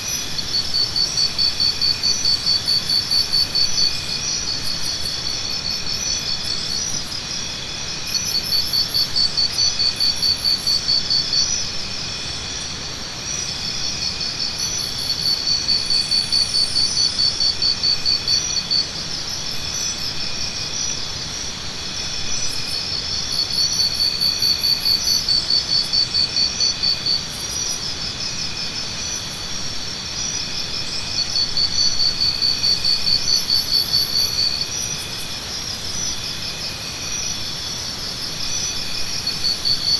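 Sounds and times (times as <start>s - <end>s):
insects chirping: 0.0s - 39.9s
rapid pulsing insect call: 0.0s - 39.9s.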